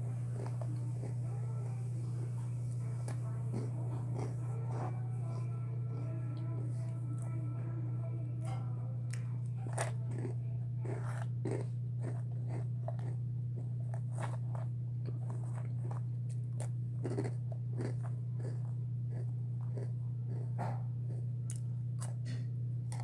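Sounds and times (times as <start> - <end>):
person chewing and crunching food: 0.0 - 7.6, 8.4 - 23.0
steady low hum: 0.0 - 23.0.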